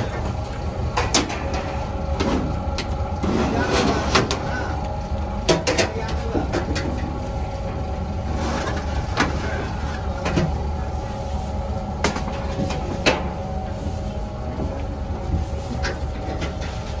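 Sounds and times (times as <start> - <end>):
low hum of machinery: 0.0 - 17.0.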